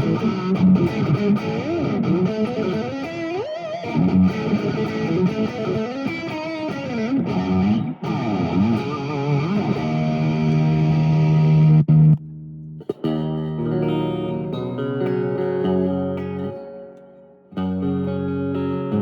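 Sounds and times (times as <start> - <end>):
electric guitar lead lines: 0.0 - 19.0.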